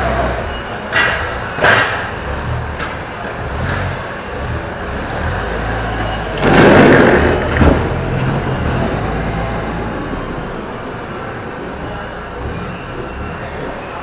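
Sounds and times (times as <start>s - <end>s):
forklift motor humming: 0.0s - 14.0s.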